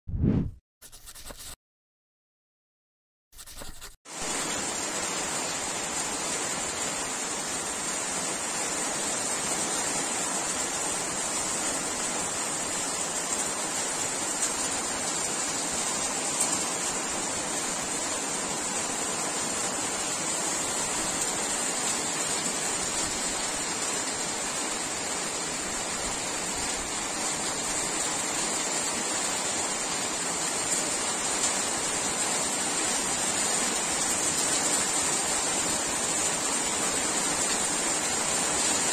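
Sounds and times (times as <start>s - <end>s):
steady rain falling: 4.2s - 38.9s.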